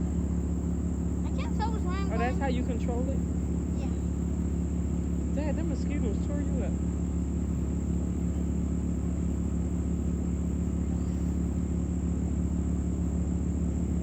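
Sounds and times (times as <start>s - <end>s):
low mechanical rumble and hum: 0.0s - 14.0s.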